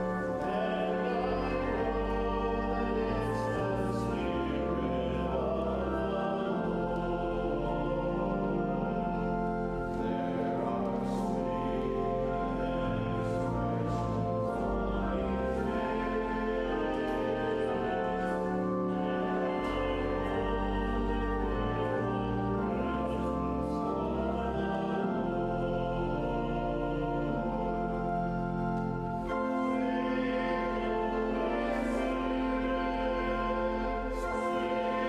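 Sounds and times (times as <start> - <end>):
church organ chords: 0.0 - 35.0
long-held bass notes: 0.0 - 35.0.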